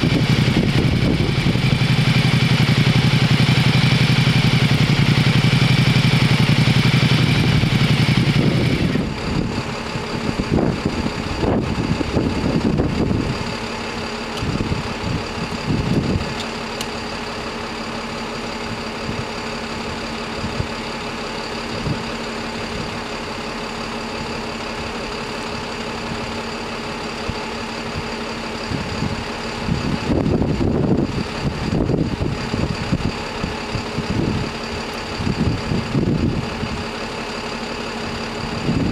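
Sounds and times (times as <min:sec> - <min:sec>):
louder engine: 0:00.0 - 0:38.9
vehicle engine idling: 0:00.0 - 0:38.9.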